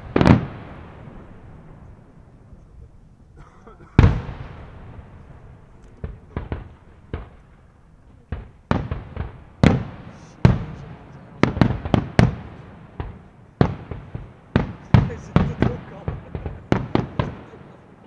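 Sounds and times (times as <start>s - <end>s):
firework shells exploding: 0.0s - 2.2s, 4.0s - 17.9s.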